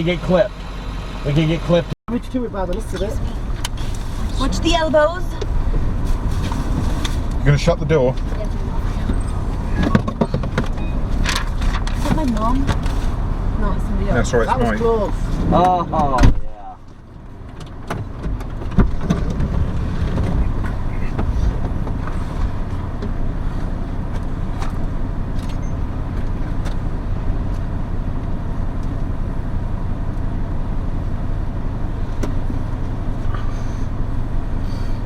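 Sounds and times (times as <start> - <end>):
car interior rumbling: 0.0 - 35.0.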